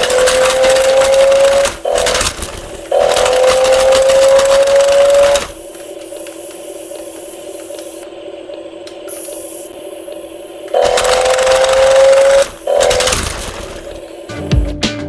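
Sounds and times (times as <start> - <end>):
toy electric motor whirring: 0.0 - 8.1, 9.0 - 14.3.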